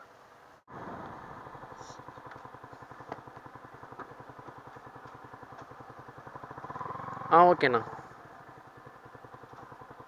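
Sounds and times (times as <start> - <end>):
motorcycle engine running: 0.7 - 10.0.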